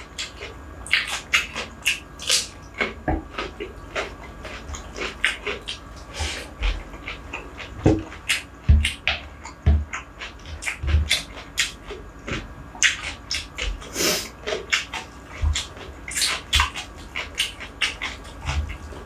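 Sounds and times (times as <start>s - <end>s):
wet chewing mouth clicks: 0.0s - 19.0s.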